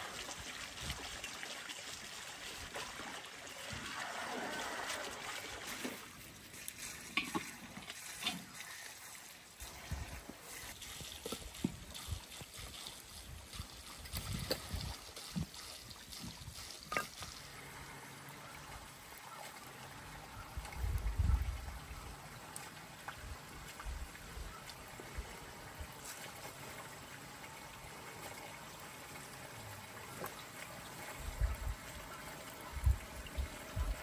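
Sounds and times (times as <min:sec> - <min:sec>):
water running from hose into basin: 0:00.0 - 0:34.0.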